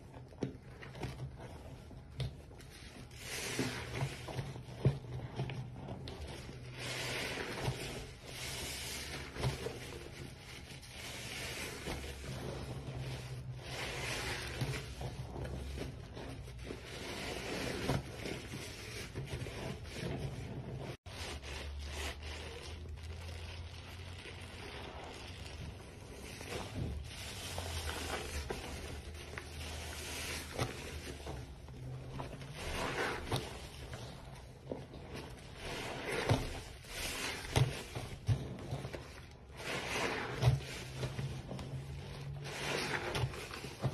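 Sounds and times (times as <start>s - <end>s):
sponge squelching in foam: 0.0s - 43.9s.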